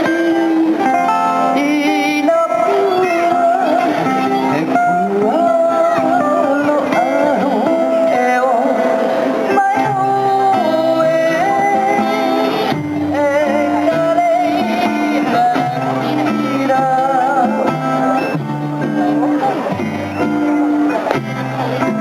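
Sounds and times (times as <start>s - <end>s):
person singing: 0.0s - 22.0s
plucked guitar: 0.0s - 22.0s.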